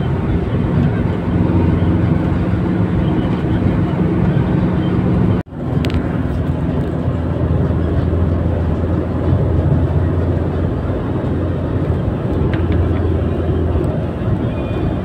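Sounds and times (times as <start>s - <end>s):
tyre road noise: 0.0s - 15.0s
vehicle engine drone: 0.0s - 15.0s.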